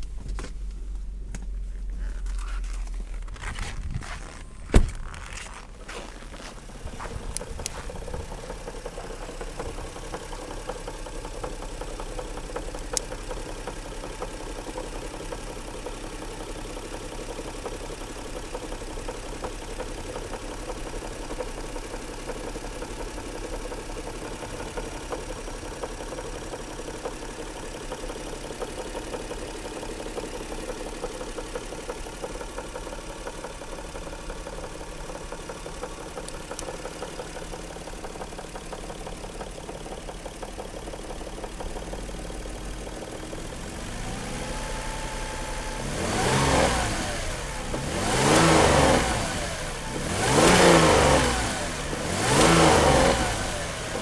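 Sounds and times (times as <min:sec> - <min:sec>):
engine idling with knocking: 0:00.0 - 0:54.0.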